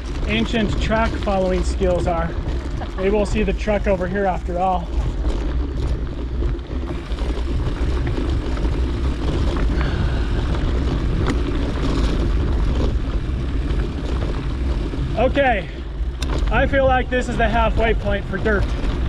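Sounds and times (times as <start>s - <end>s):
bike clicks and rattles: 0.0s - 19.0s
tyre noise: 0.0s - 19.0s
wind rumbling on microphone: 0.0s - 19.0s.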